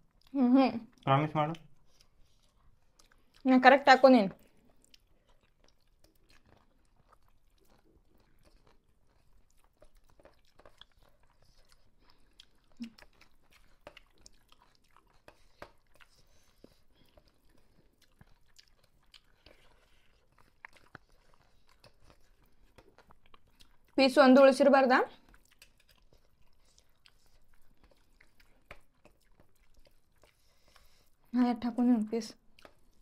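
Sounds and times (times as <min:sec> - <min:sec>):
people chewing: 0:00.0 - 0:03.5, 0:04.3 - 0:33.0.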